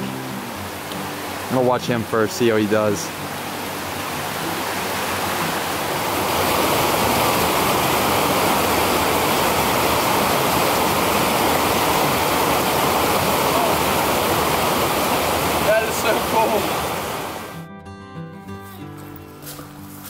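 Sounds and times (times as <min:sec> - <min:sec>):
creek rushing over rocks: 0:00.0 - 0:17.6.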